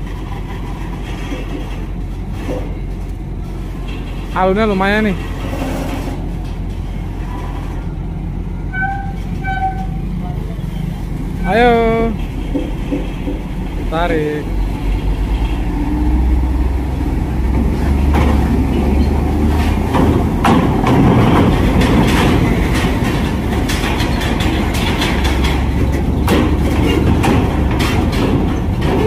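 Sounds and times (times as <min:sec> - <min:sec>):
clanks and rattles on metal ramp: 0:00.0 - 0:29.0
heavy truck engine droning: 0:00.0 - 0:29.0.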